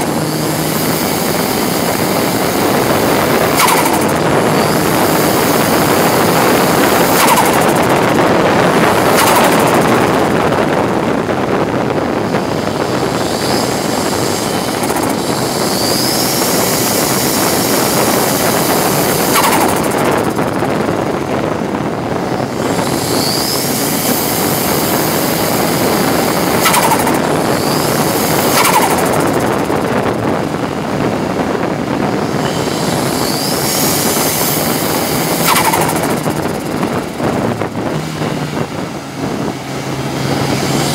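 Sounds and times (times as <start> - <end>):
race car engine under hard load: 0.0 - 40.9
road and wind noise: 0.0 - 40.9.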